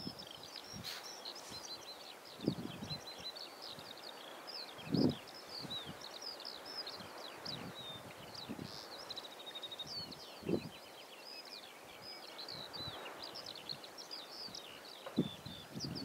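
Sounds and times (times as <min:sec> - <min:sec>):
wind gusts on microphone: 0:00.0 - 0:10.9, 0:11.9 - 0:16.0
songbird twittering: 0:00.0 - 0:16.0.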